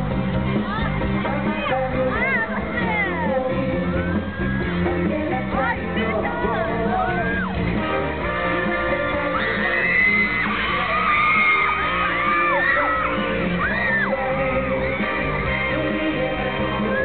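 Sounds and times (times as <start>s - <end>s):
crowd screaming and yelling: 0.0s - 17.0s
song over public address: 0.0s - 17.0s.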